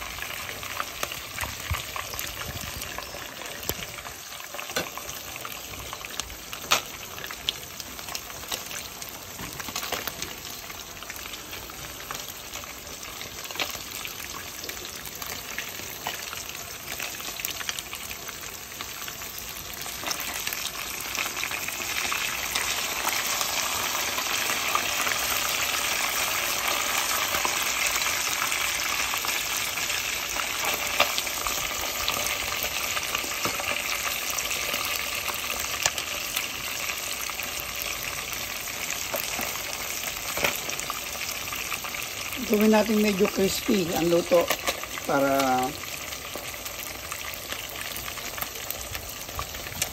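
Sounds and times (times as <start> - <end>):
fish deep-frying in oil: 0.0 - 49.9.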